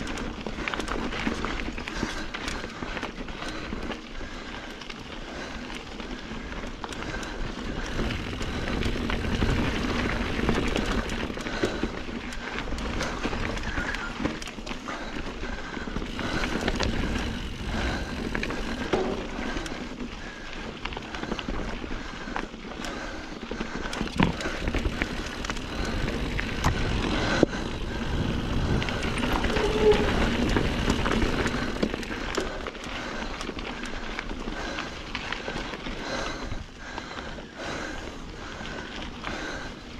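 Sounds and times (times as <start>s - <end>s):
bike rattling: 0.0s - 39.9s
bike tyres crunching over rocks: 0.0s - 39.9s.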